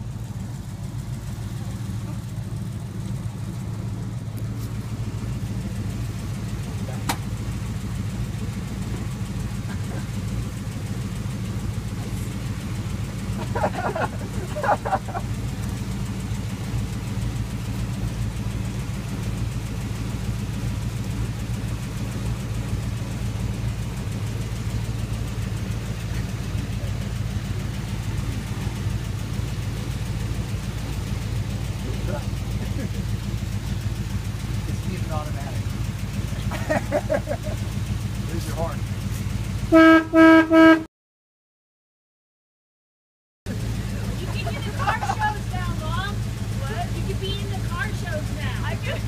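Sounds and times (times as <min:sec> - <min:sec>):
pickup engine idling: 0:00.0 - 0:40.9, 0:43.5 - 0:49.0.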